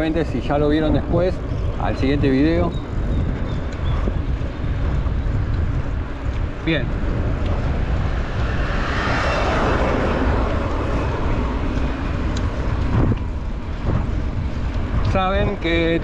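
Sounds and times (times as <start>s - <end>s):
passing vehicle rushing: 0.0s - 16.0s
wind rumbling on microphone: 0.0s - 16.0s.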